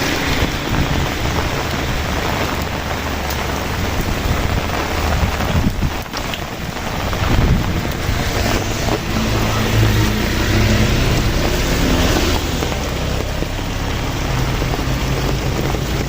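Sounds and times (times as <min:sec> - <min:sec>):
heavy rain falling: 0:00.0 - 0:16.0
low rumble: 0:00.0 - 0:16.0.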